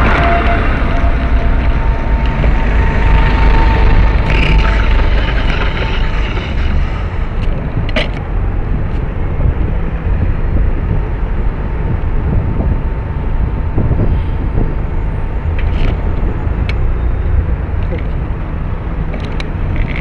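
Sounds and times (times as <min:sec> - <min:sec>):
low rumble on microphone: 0:00.0 - 0:20.0
road traffic: 0:00.0 - 0:20.0.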